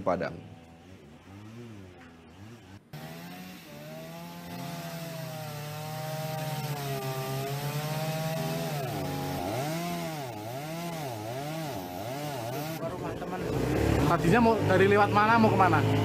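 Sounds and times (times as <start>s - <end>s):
chainsaw cutting wood: 0.6s - 16.0s.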